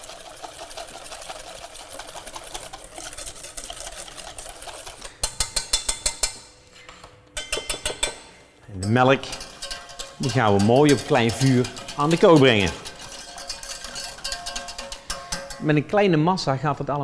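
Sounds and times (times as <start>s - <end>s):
whisk ticking against metal bowl: 0.0s - 6.5s, 7.4s - 16.0s.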